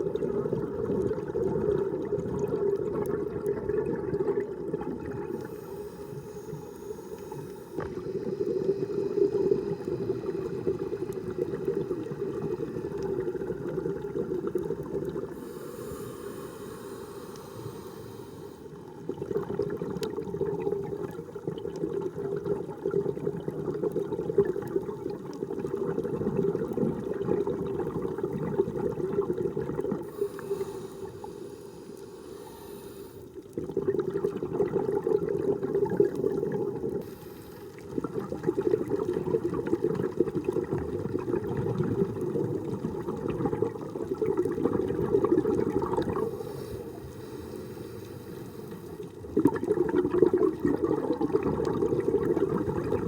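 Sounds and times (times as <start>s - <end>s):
muffled underwater bubbling: 0.0s - 53.0s.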